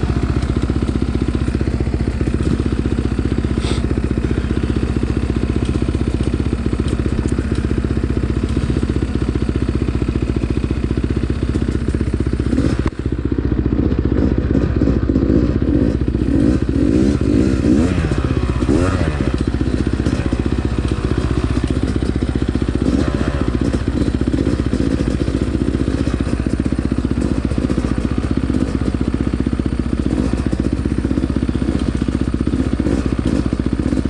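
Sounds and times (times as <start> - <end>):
dirt bike engine idling: 0.0 - 34.0.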